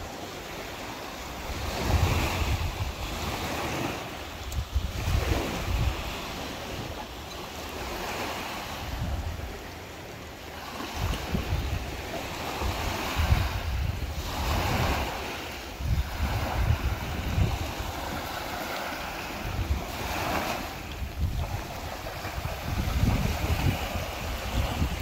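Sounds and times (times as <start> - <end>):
small waves washing on sand: 0.0 - 25.0
wind gusting on microphone: 1.2 - 9.8, 10.4 - 25.0.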